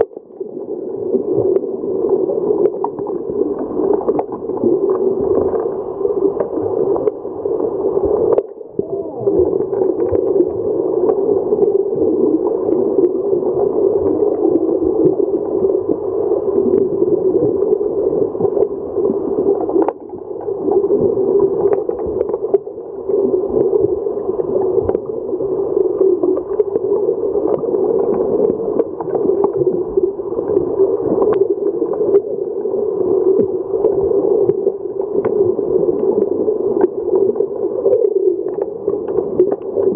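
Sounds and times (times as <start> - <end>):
muffled underwater churning: 0.0 - 39.9.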